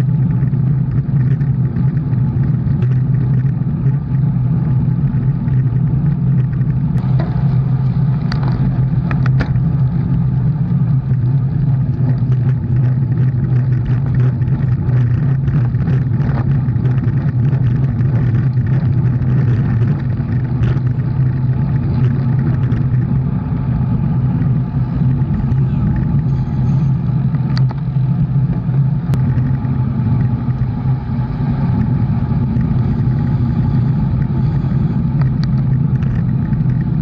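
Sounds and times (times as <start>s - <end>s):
engine humming steadily: 0.0s - 37.0s.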